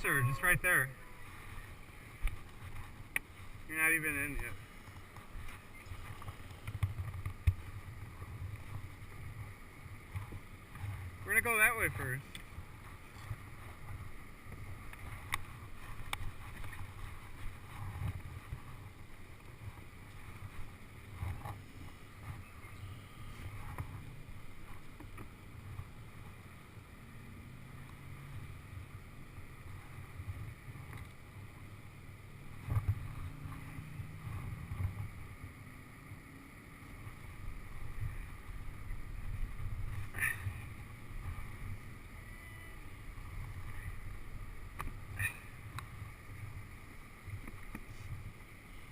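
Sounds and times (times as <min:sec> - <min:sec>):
paddle strokes and water splashing: 0:00.0 - 0:48.9
wind rumble on microphone: 0:00.0 - 0:48.9.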